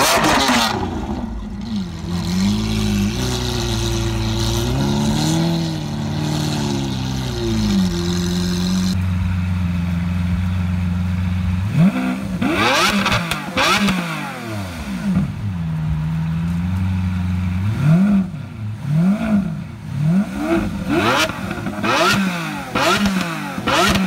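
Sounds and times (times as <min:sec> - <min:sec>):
car engine idling: 0:00.0 - 0:13.7, 0:14.6 - 0:21.9
car engine revving: 0:00.0 - 0:24.0.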